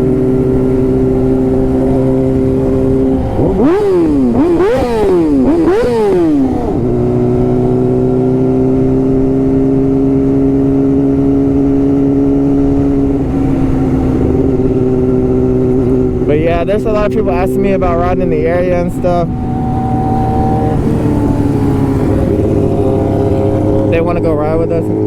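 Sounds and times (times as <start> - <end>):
sportbike engine revving: 0.0 - 25.0.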